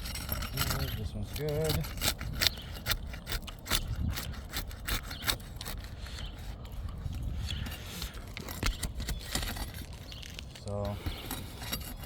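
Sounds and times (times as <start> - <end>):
shingles scraping and crackling: 0.0 - 12.0.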